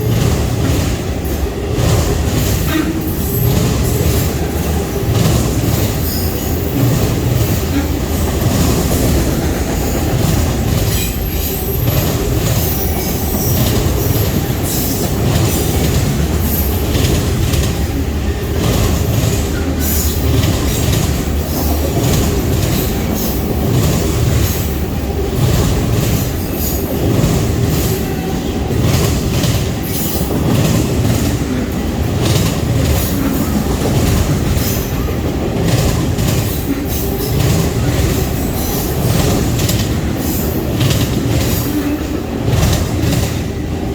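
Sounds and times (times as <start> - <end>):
train cars rumbling: 0.0 - 43.9
wheels clacking over rail joints: 0.0 - 43.9.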